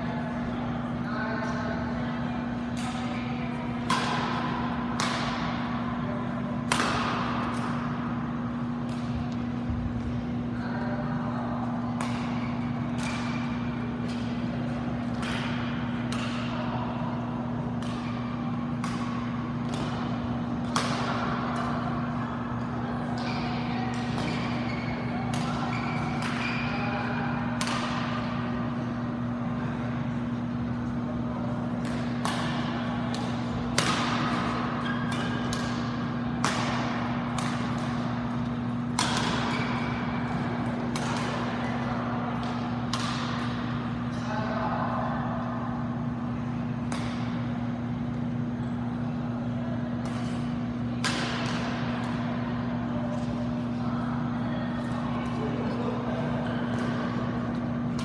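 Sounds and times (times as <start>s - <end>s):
steady low hum: 0.0s - 58.0s
rackets striking shuttlecock: 2.5s - 10.4s, 11.7s - 44.3s, 45.8s - 49.2s, 49.8s - 53.8s, 54.8s - 58.0s.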